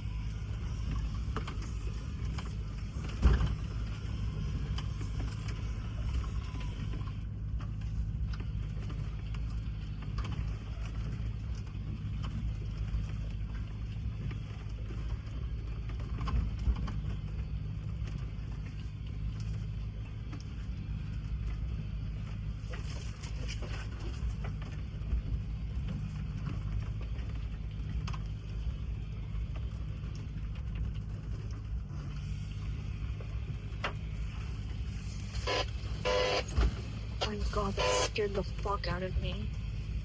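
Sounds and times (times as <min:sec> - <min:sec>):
body and suspension rattles: 0:00.0 - 0:37.2
vehicle engine running: 0:00.0 - 0:40.0.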